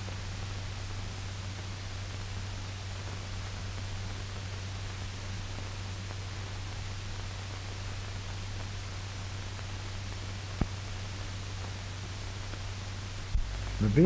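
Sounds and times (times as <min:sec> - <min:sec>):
film soundtrack hiss and hum: 0:00.0 - 0:14.0.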